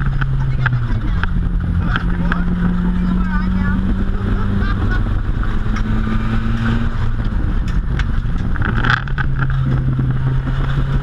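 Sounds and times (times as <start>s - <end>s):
car engine running hard: 0.0s - 11.0s
road and wind rumble: 0.0s - 11.0s.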